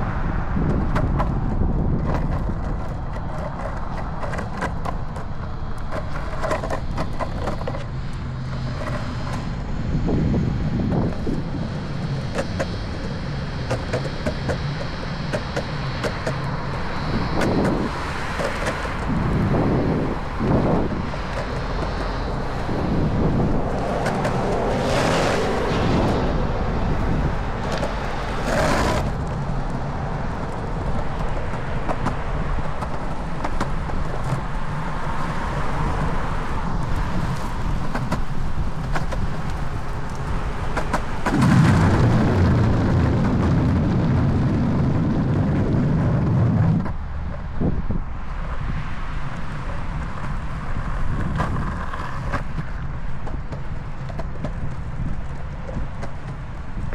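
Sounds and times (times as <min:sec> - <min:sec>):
longboard wheels rolling on concrete: 0:00.0 - 0:56.9
traffic passing: 0:00.0 - 0:56.9.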